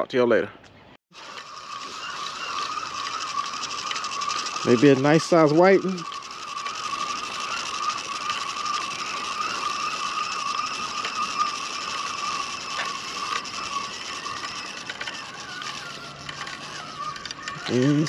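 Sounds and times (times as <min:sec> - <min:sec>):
spinning reel gears whirring: 0:01.1 - 0:18.0.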